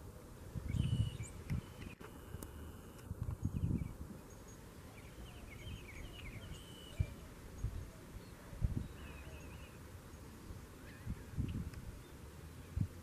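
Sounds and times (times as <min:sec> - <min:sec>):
small birds chirping: 0:00.5 - 0:13.0.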